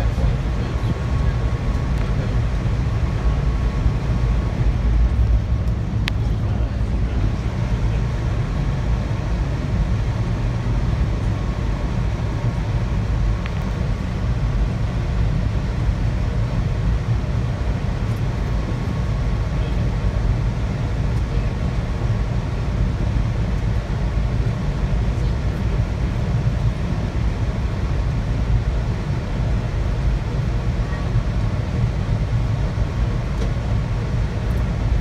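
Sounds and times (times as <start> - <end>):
train running on track: 0.0 - 35.0.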